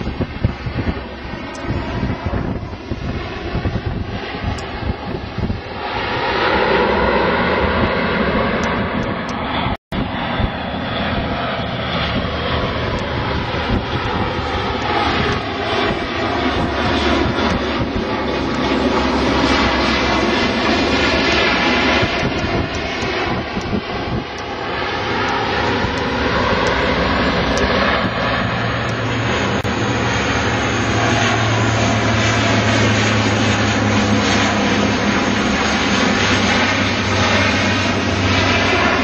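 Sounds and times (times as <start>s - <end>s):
turboprop engines droning: 0.0s - 39.0s.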